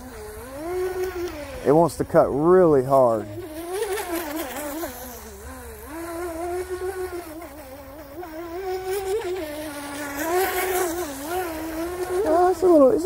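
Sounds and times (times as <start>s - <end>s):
rc boat motor whining: 0.0s - 13.0s.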